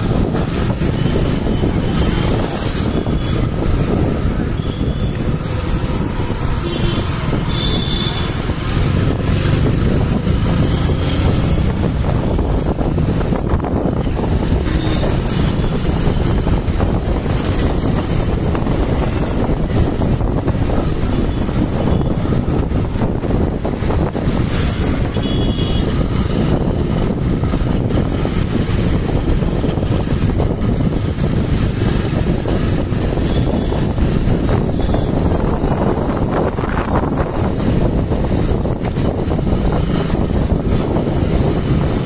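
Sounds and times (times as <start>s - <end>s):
motorcycle engine: 0.0s - 42.0s
road noise of vehicles: 0.0s - 42.0s
wind rush on microphone: 0.0s - 42.0s.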